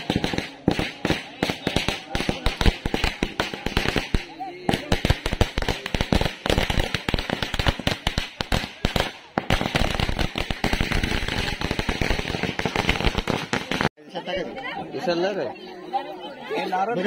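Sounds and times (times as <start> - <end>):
firecrackers popping: 0.0 - 14.0.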